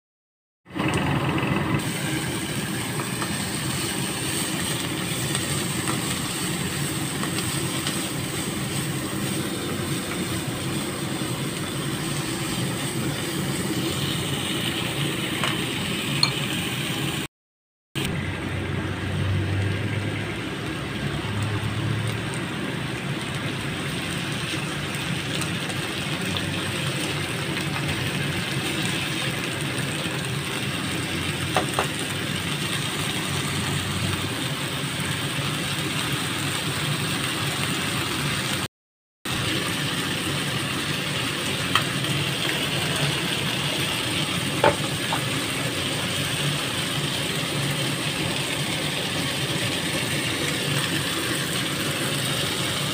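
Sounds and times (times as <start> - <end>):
food sizzling in a frying pan: 1.6 - 17.3, 18.3 - 38.7, 39.3 - 52.9.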